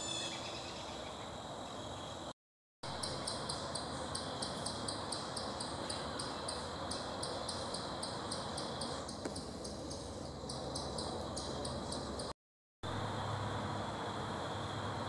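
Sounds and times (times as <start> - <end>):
insects chirping: 0.0 - 2.3, 2.9 - 12.3, 12.9 - 15.0.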